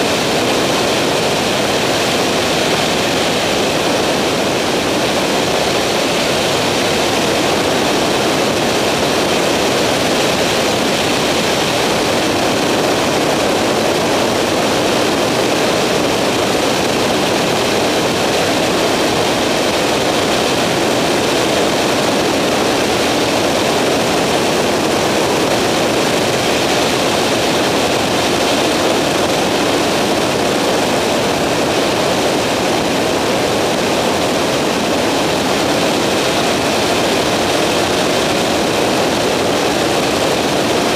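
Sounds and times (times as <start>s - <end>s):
microlight engine and propeller drone: 0.0s - 40.9s.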